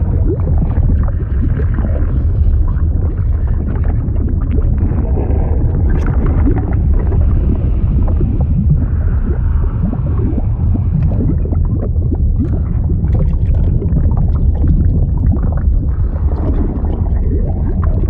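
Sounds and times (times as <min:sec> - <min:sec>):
deep liquid rumble: 0:00.0 - 0:18.0
liquid gurgling and bubbling: 0:00.0 - 0:18.0.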